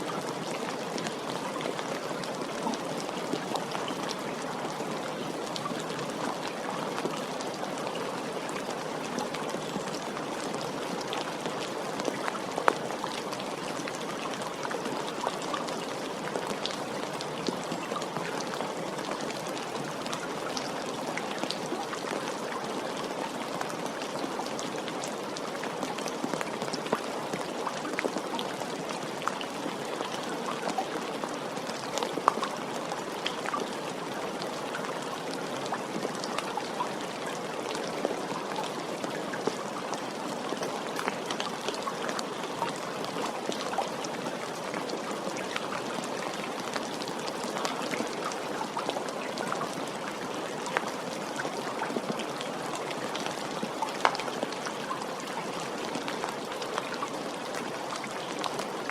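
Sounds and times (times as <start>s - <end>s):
raindrops ticking on a surface: 0.0s - 58.9s
steady rain falling: 0.0s - 58.9s.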